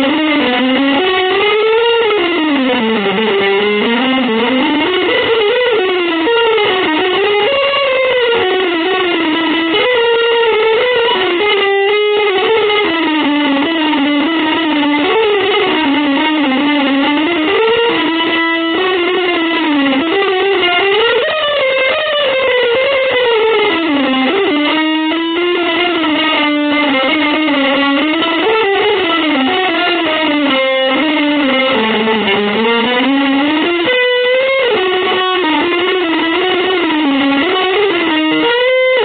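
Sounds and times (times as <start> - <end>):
distorted electric guitar melody: 0.0 - 39.0.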